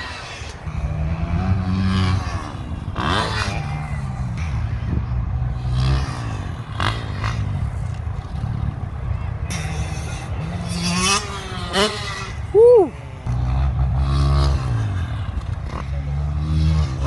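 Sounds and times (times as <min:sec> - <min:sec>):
dirt bike engine revving: 0:00.0 - 0:12.5, 0:13.1 - 0:17.0.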